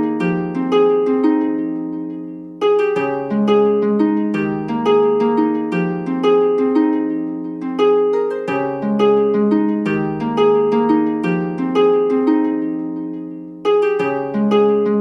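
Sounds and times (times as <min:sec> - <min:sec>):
harp-like plucked arpeggios: 0:00.0 - 0:15.0.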